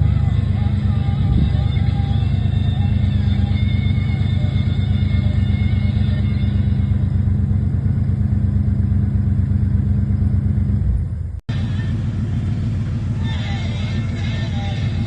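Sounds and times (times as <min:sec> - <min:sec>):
low droning music: 0:00.0 - 0:10.3, 0:11.5 - 0:15.0
engine running steadily: 0:00.0 - 0:15.0.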